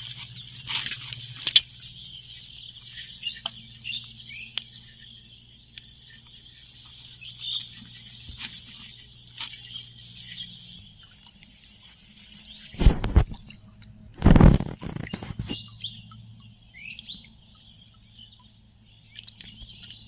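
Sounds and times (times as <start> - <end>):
bird chirps: 0.0 - 13.6, 14.3 - 20.0.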